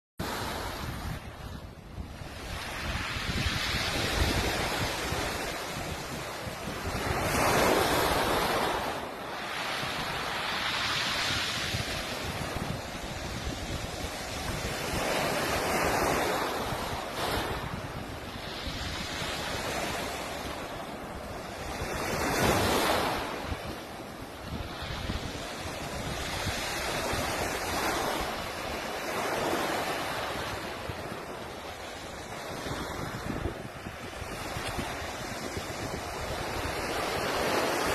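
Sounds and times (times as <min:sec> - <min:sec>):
sea waves breaking on beach: 0:00.2 - 0:37.9
wind buffeting microphone: 0:00.2 - 0:37.9.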